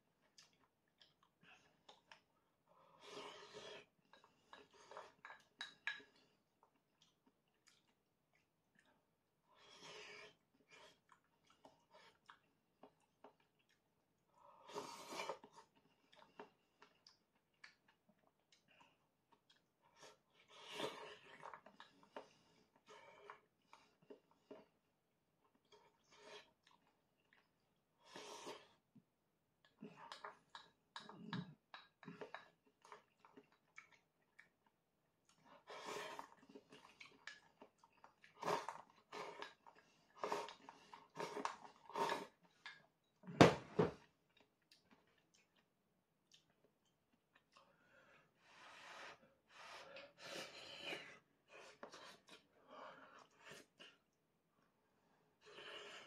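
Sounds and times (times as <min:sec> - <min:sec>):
chewing and slurping noodles: 0:00.1 - 0:28.9, 0:29.6 - 0:43.2, 0:44.0 - 0:54.2.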